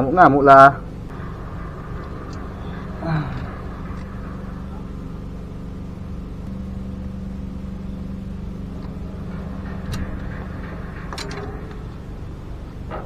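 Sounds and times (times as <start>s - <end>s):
low engine hum: 1.0s - 13.0s.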